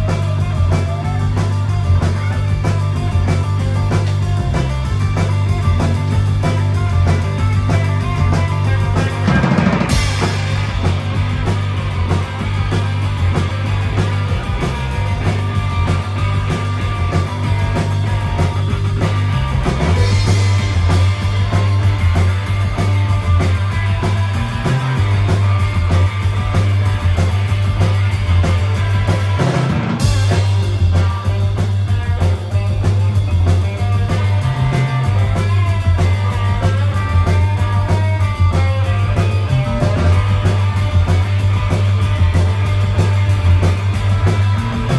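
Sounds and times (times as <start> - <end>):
distorted electric guitar: 0.0 - 44.9
drum kit beat: 0.0 - 44.9
electric bass line: 0.0 - 44.9.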